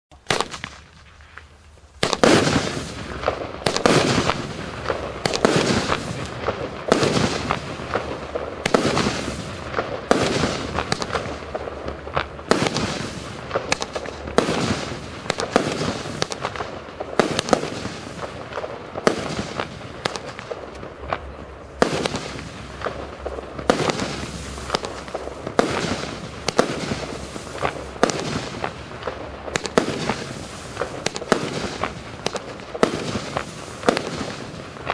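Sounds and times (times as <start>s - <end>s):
fireworks shots and aerial bursts: 0.1s - 34.9s.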